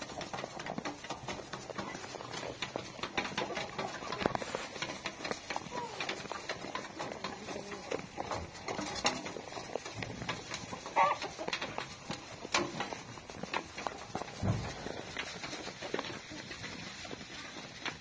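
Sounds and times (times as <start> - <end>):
sheep crunching grain in metal trough: 0.0 - 18.0.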